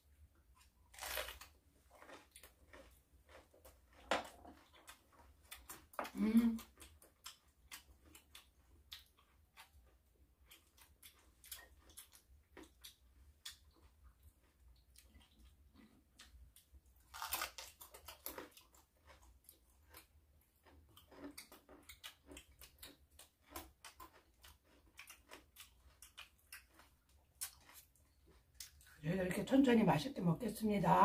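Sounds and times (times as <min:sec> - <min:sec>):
crunching raw vegetables: 0:00.4 - 0:29.0.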